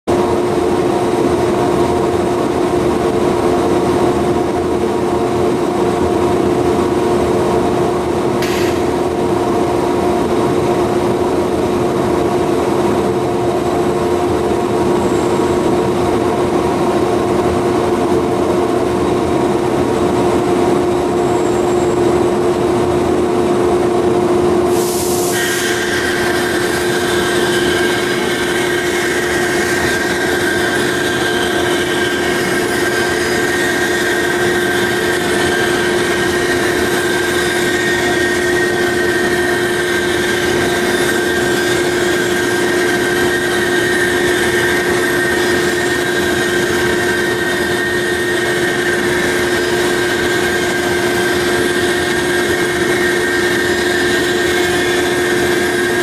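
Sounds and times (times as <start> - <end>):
bandsaw machine hum: 0.1 - 56.0.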